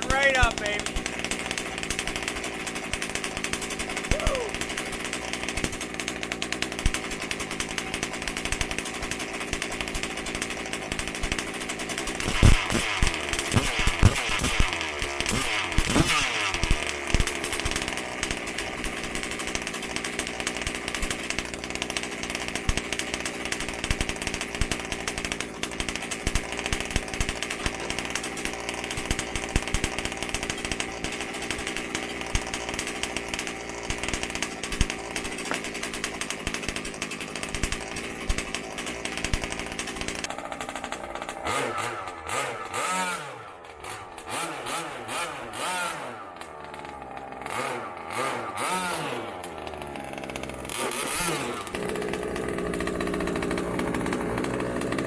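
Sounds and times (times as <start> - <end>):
rc truck two-stroke engine: 0.0 - 55.0.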